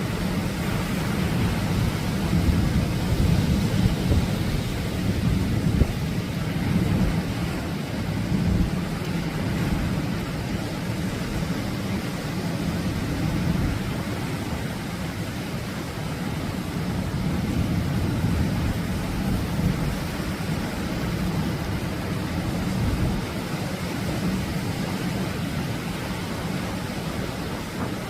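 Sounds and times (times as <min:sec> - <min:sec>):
surf rushing on beach: 0:00.0 - 0:28.0.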